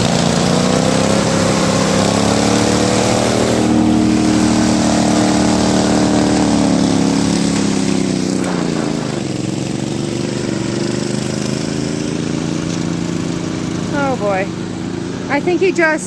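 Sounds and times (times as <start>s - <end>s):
riding lawn mower engine running: 0.0s - 16.0s.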